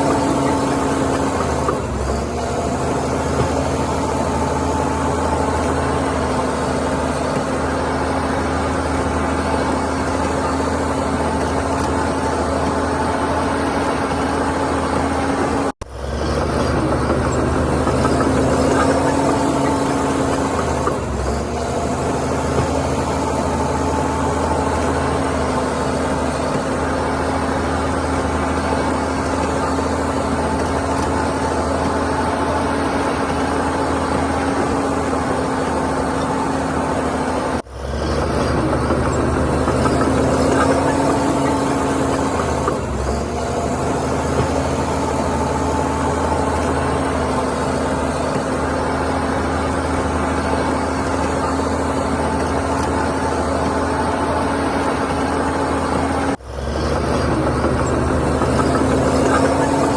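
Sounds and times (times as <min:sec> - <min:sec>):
diesel machinery engine running: 0:00.0 - 0:59.9.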